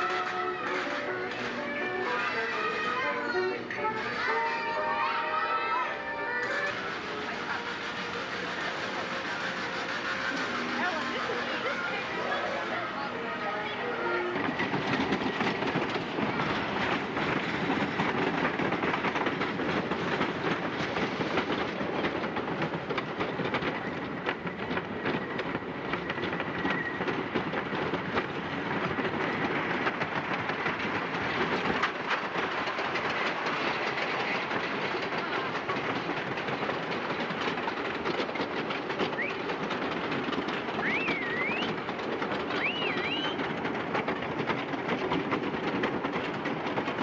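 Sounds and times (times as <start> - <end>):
roller coaster rattling on track: 0.0 - 47.0.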